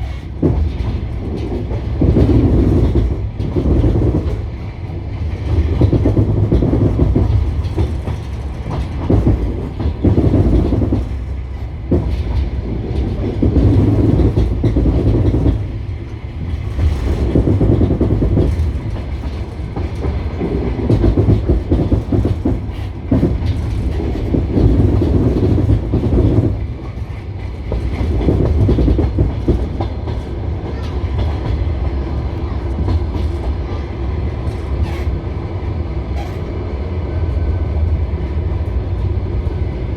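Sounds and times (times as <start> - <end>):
train wheels clicking over rail joints: 0.0 - 35.3
train low rumble: 0.0 - 39.9.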